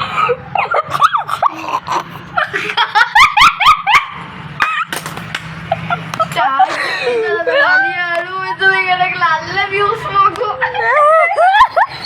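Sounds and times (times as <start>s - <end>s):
children laughing: 0.0s - 12.0s.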